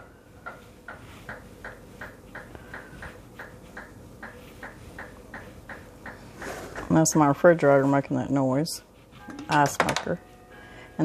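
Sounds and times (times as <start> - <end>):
refrigerator hum: 0.0 - 11.0.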